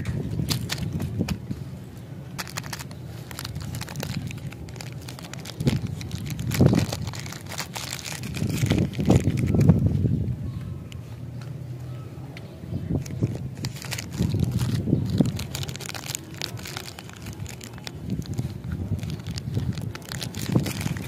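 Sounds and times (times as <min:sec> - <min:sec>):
wrapper crinkling: 0:00.0 - 0:01.5, 0:02.3 - 0:09.8, 0:12.8 - 0:21.0
dull handling rumble: 0:00.0 - 0:21.0.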